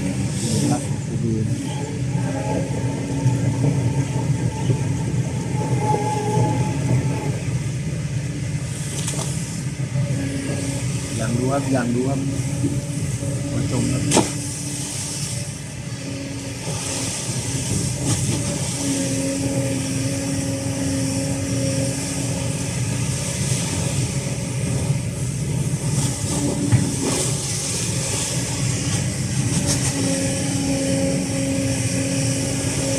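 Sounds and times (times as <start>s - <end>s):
excavator engine rumbling: 0.0s - 32.9s
hydraulic whine: 0.0s - 32.9s.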